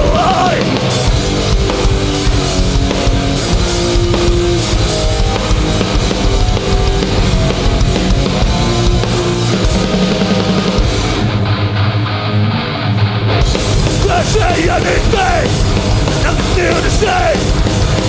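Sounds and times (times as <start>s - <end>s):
pounding drum kit: 0.0s - 11.6s, 13.4s - 18.0s
bass guitar: 0.0s - 18.0s
distorted electric guitars: 0.0s - 18.0s.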